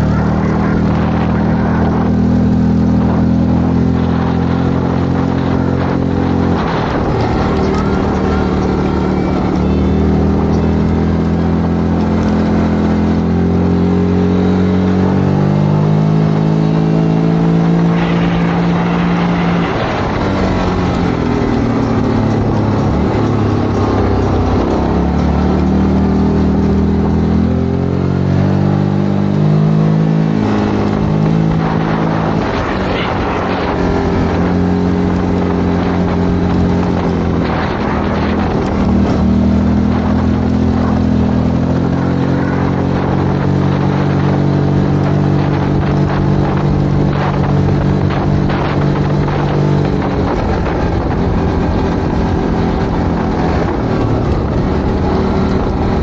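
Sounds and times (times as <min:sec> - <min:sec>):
atv engine revving: 0:00.0 - 0:56.0
steady rush of noise: 0:00.0 - 0:56.0.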